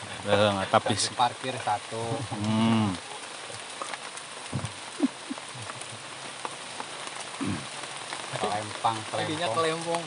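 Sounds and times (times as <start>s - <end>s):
drizzle on foliage: 0.0s - 10.0s
water drips: 0.0s - 10.0s.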